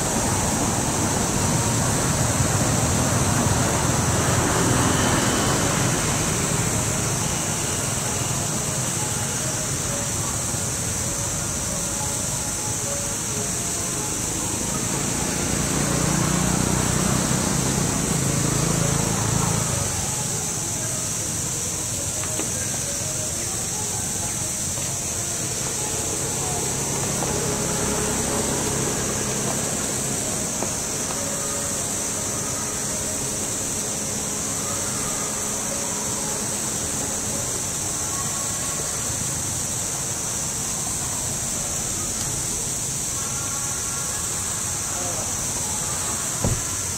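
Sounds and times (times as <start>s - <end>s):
insects droning: 0.0s - 46.9s
motor vehicle engine: 0.0s - 46.9s
steady high-pitched hiss: 0.0s - 46.9s.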